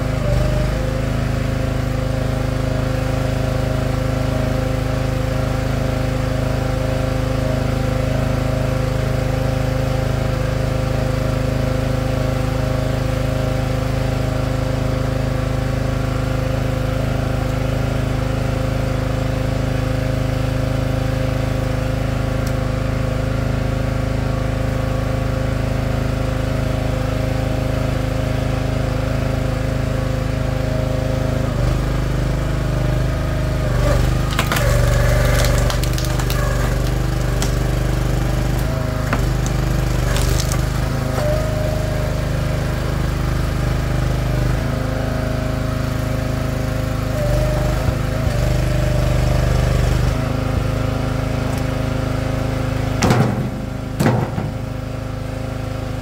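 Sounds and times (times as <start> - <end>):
log splitter engine running: 0.0 - 56.0.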